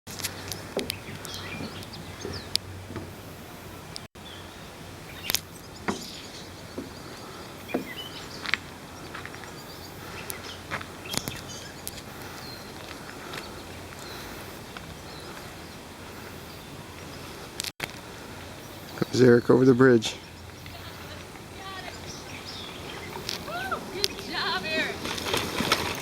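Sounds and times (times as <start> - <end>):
outdoor background noise: 0.1 - 26.0.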